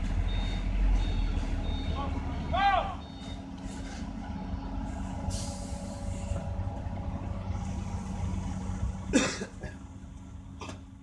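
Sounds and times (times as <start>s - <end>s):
heavy diesel engines rumbling: 0.0s - 11.0s.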